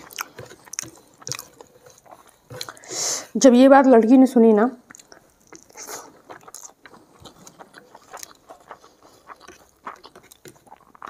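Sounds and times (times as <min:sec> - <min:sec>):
wet chewing and mouth clicks: 0:00.0 - 0:03.0, 0:04.8 - 0:11.0.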